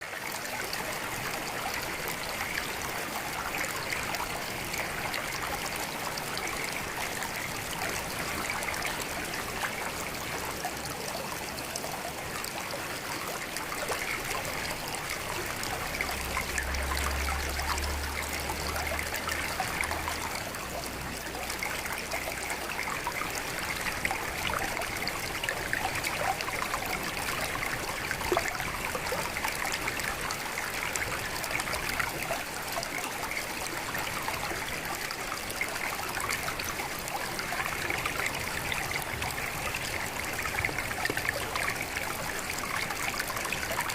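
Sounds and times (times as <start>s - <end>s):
stream trickling: 0.0s - 43.9s.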